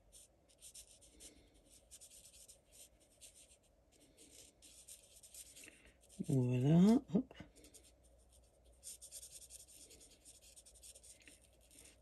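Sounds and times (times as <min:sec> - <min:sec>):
marker scratching on card: 0:00.1 - 0:03.6, 0:04.3 - 0:06.3, 0:07.7 - 0:12.0.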